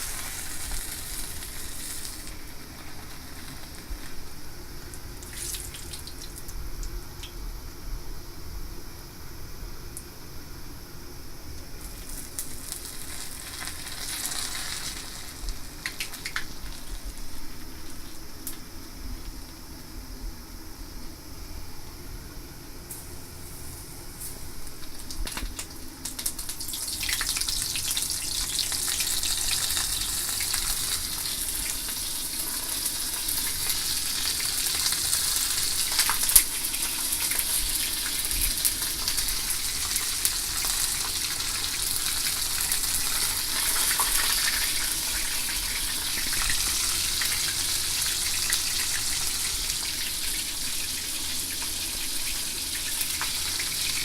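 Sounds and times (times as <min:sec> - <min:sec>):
fish sizzling in hot oil: 0:00.0 - 0:07.3, 0:11.7 - 0:18.6, 0:22.9 - 0:54.0.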